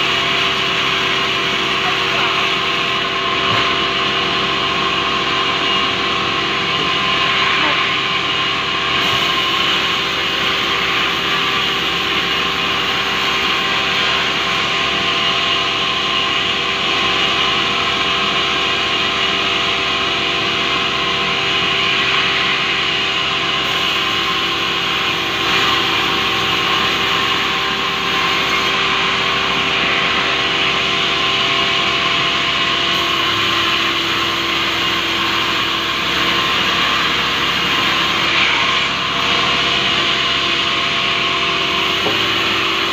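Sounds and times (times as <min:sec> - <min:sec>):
machine hum: 0:00.0 - 0:42.9
band saw cutting log: 0:05.6 - 0:42.9.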